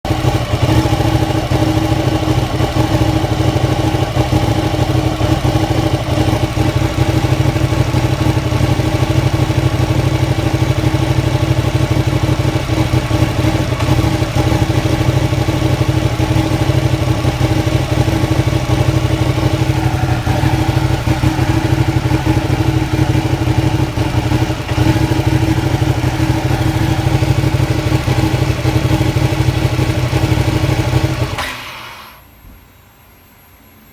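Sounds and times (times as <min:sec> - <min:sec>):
motorcycle engine idling rough: 0:00.1 - 0:32.3.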